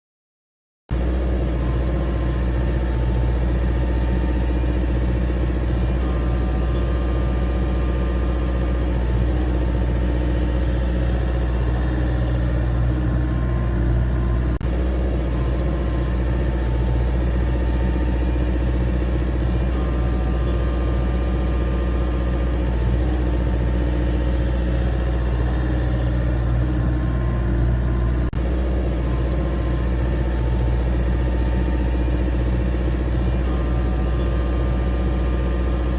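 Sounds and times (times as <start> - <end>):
engine idling: 0.9 - 35.9.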